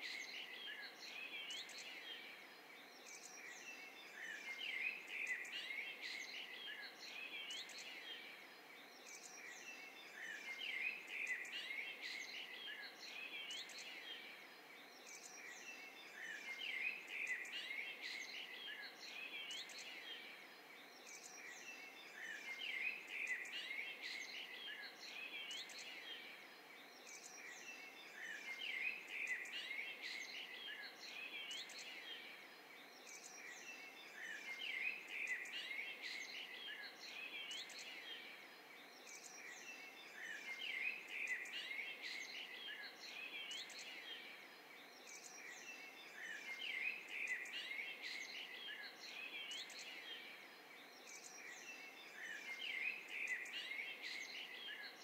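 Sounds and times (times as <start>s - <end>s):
forest ambience hiss: 0.0s - 55.0s
songbirds singing and chirping: 0.0s - 55.0s.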